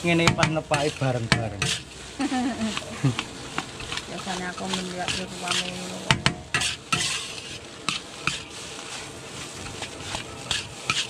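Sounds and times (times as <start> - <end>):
metal spatula scraping a wok: 0.0 - 2.0, 2.6 - 11.0
light sizzling: 0.0 - 11.0.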